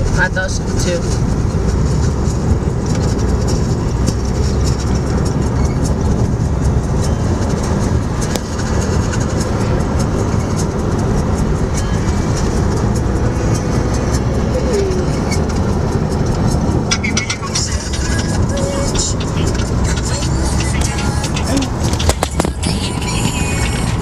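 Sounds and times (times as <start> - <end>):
moving vehicle rumble: 0.0 - 24.0.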